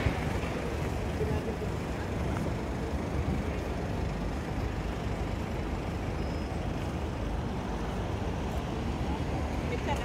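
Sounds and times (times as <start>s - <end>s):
city street rumble: 0.0s - 10.0s
distant road traffic: 0.0s - 10.0s.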